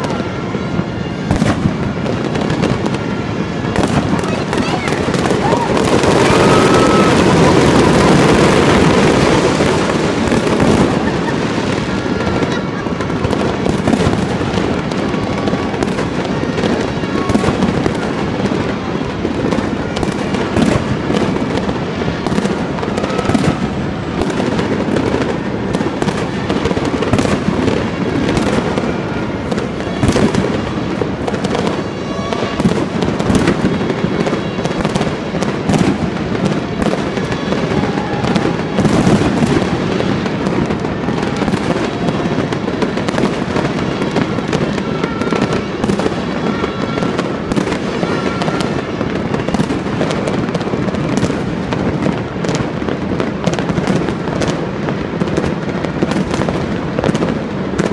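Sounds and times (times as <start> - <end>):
fireworks bursting and crackling: 0.0 - 57.9.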